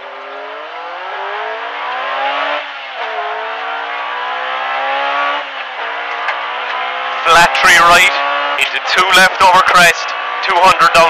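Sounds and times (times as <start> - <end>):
car engine accelerating: 0.0 - 11.0
road and tyre noise: 0.0 - 11.0.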